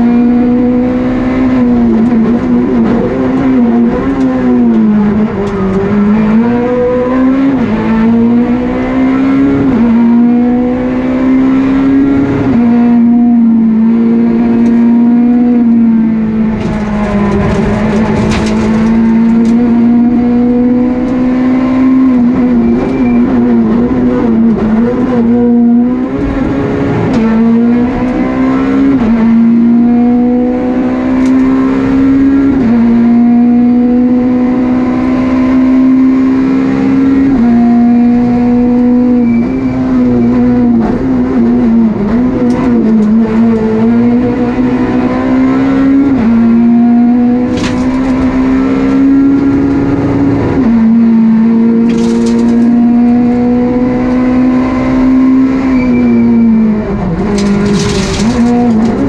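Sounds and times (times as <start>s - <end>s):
rally car engine at high revs: 0.0s - 59.0s.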